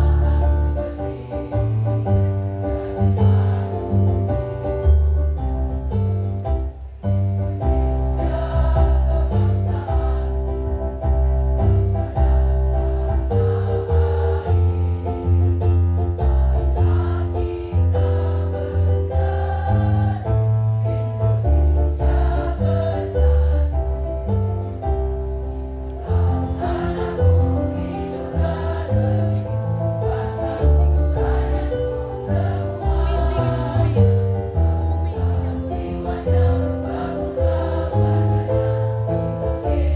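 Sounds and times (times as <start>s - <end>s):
women's choir singing: 0.0s - 5.0s, 7.4s - 39.9s.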